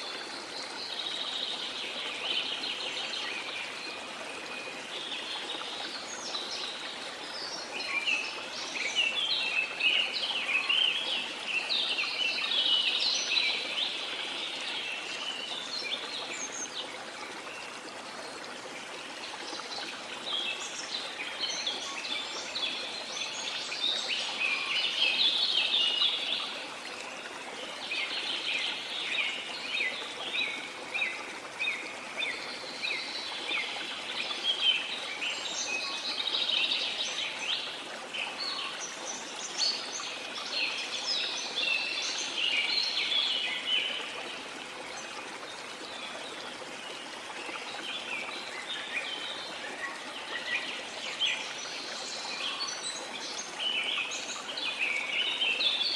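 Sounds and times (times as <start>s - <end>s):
water rushing: 0.0s - 55.9s.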